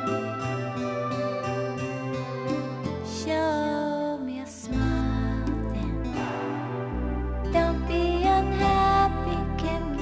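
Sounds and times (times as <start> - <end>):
slow soft music with chords: 0.0 - 10.0.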